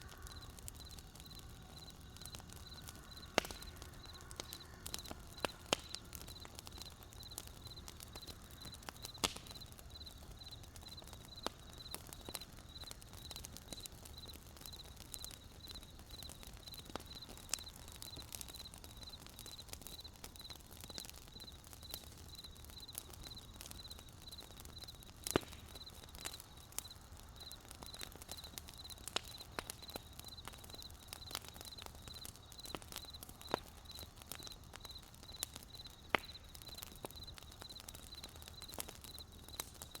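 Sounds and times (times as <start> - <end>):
cricket chirping: 0.0 - 25.1, 25.7 - 40.0
campfire crackling and popping: 0.0 - 40.0.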